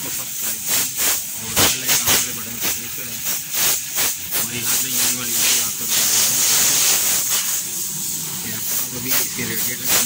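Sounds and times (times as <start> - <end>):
air blow gun hissing: 0.0 - 10.0.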